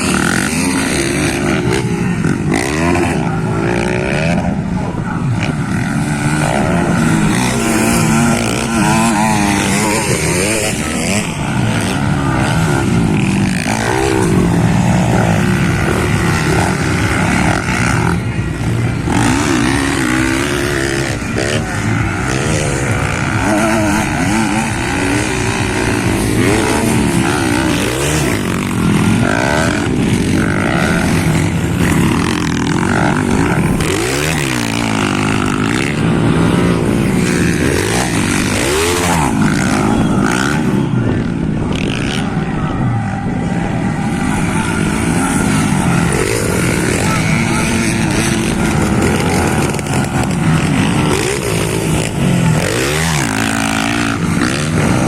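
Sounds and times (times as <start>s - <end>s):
motocross bikes revving: 0.0s - 55.0s.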